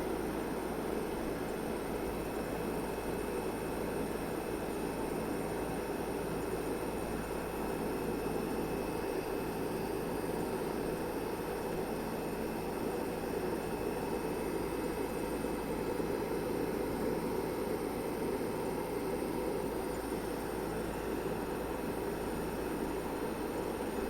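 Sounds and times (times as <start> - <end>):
heat pump fan whirring: 0.0 - 24.0.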